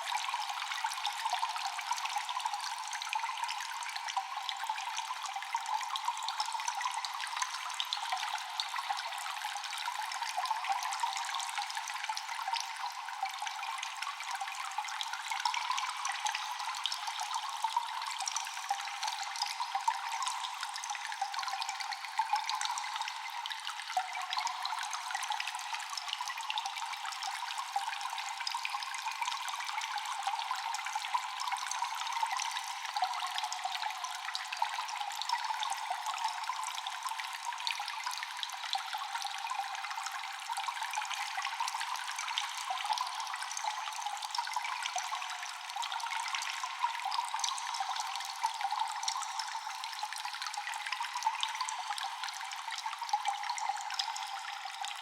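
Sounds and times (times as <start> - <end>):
small water drips: 0.0 - 55.0
water trickling in a cave: 0.0 - 55.0.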